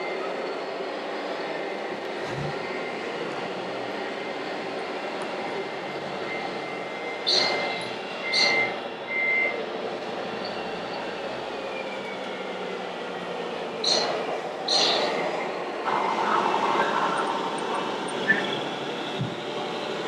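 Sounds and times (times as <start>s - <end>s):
model vehicles mechanical hum: 1.4s - 20.0s.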